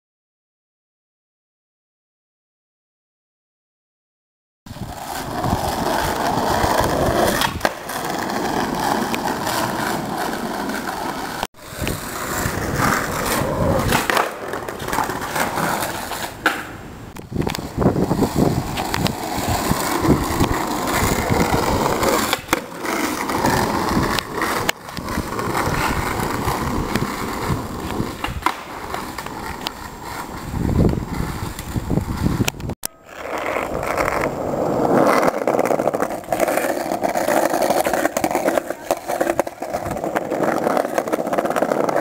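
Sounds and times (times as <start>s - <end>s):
skateboard wheels rolling on asphalt: 4.7s - 42.0s
skateboard wheels rumbling over pavers: 4.7s - 42.0s
skateboard clacks: 4.9s - 42.0s.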